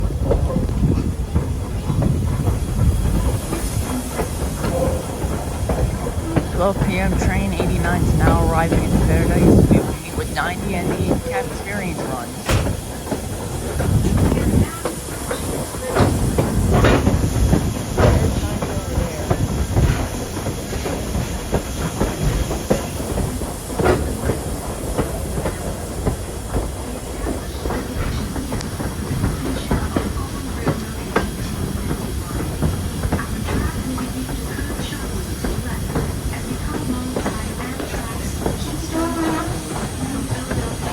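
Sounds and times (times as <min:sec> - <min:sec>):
train rumbling on rails: 0:00.0 - 0:40.9
wheels clicking over rail joints: 0:00.0 - 0:40.9.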